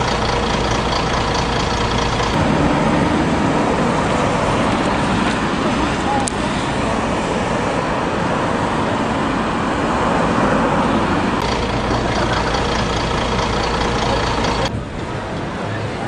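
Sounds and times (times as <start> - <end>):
bus engine humming: 0.0 - 16.0
street traffic: 0.0 - 16.0.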